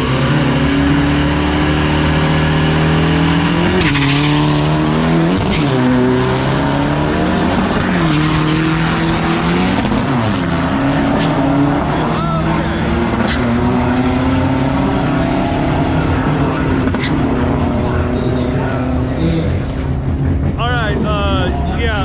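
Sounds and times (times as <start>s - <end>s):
diesel truck accelerating hard: 0.0s - 22.0s.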